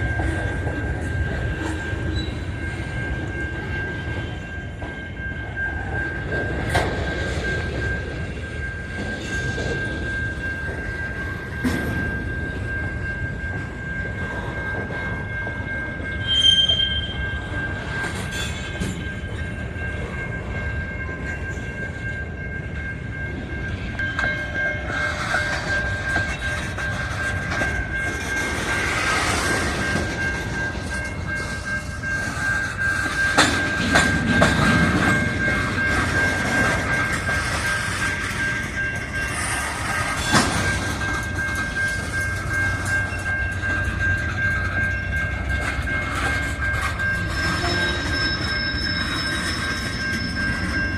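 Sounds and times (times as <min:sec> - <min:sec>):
train rumbling past: 0:00.0 - 0:50.9.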